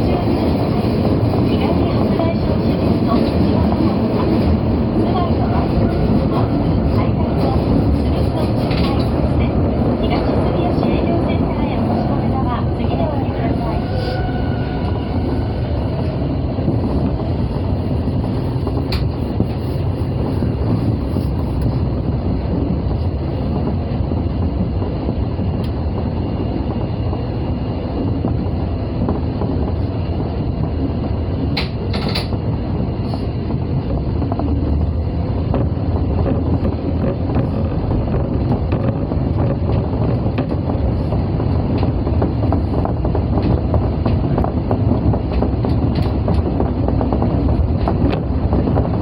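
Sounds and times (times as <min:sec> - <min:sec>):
subway train rumbling on rails: 0:00.0 - 0:49.0.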